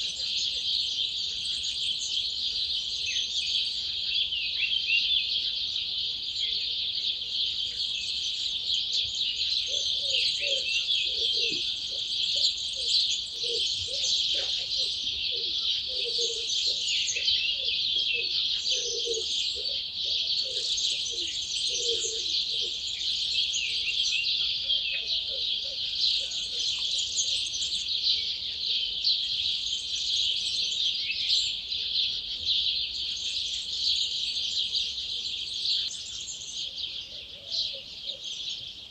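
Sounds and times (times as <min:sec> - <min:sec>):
birds singing chorus: 0:00.0 - 0:38.9
low repeated bird call: 0:00.0 - 0:38.9.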